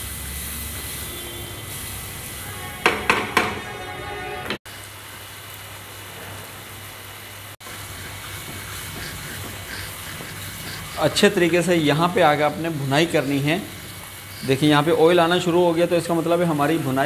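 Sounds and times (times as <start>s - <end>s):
food sizzling in a pan: 0.0s - 3.7s, 4.6s - 17.0s.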